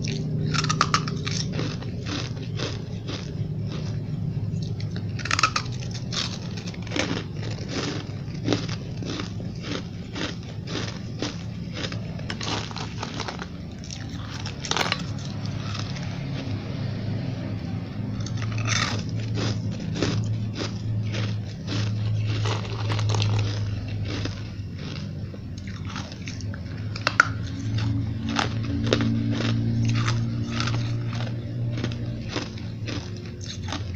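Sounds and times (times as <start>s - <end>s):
crunching ice chewing: 0.0s - 16.9s, 18.2s - 33.9s
low steady hum: 0.0s - 33.9s.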